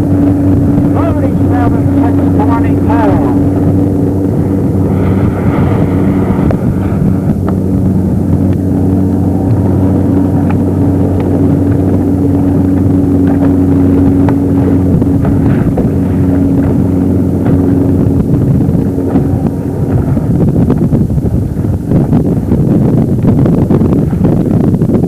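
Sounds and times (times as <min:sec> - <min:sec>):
motorboat engine humming: 0:00.0 - 0:25.0
water noise: 0:00.0 - 0:25.0
wind noise: 0:00.0 - 0:25.0.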